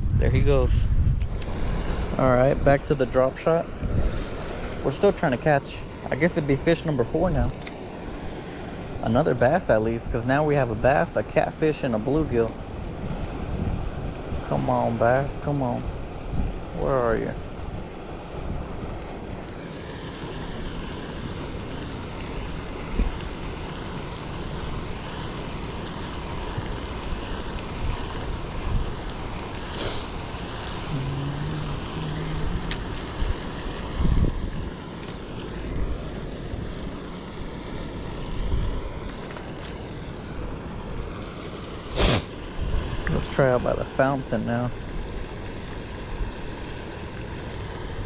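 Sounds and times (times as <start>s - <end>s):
wind blowing across microphone: 0.0s - 48.0s.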